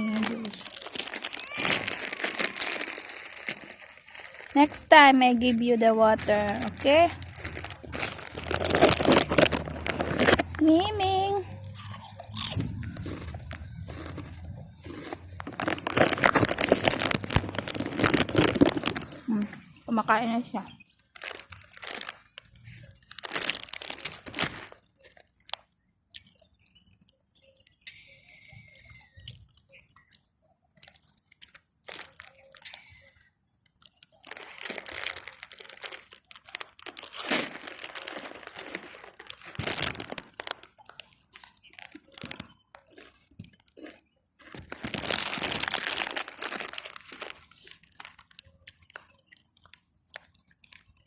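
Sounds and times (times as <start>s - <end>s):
cats crunching chips: 0.0s - 20.0s, 21.0s - 27.5s, 28.2s - 51.0s
plastic chip bag crinkling: 0.0s - 51.0s.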